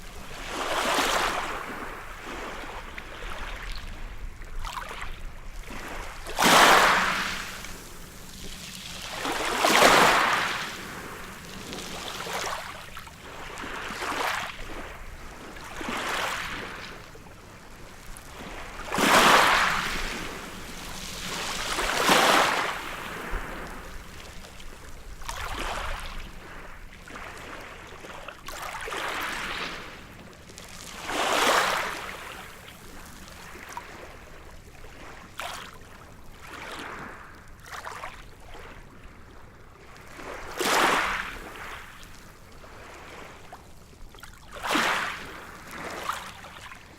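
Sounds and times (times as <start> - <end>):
waves breaking on beach: 0.0 - 39.0, 39.9 - 46.9.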